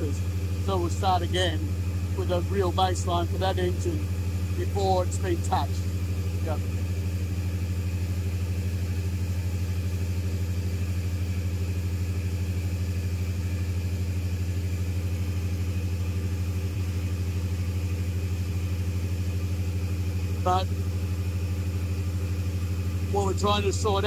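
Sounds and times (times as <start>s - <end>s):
gas generator engine droning: 0.0s - 24.0s.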